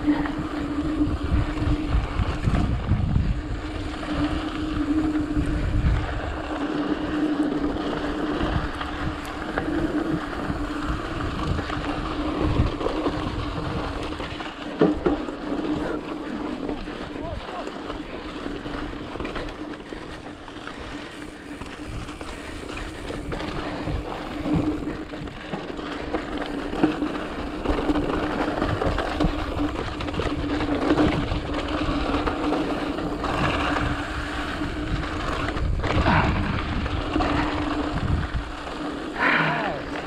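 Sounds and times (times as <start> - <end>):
wind noise on microphone: 0.0 - 15.6, 20.1 - 40.0
bike rattling over bumps: 0.0 - 40.0.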